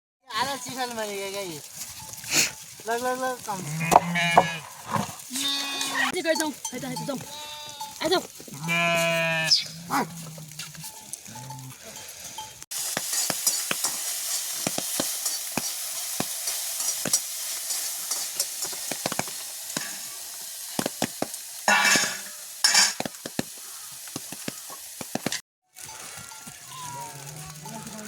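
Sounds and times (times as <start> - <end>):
food sizzling in a pan: 0.3 - 28.0.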